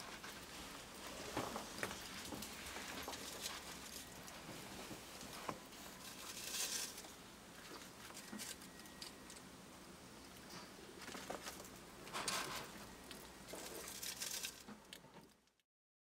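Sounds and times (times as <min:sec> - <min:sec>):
rustling: 0:00.0 - 0:09.4, 0:10.2 - 0:15.6
small animals scratching: 0:00.0 - 0:09.5, 0:10.4 - 0:15.4.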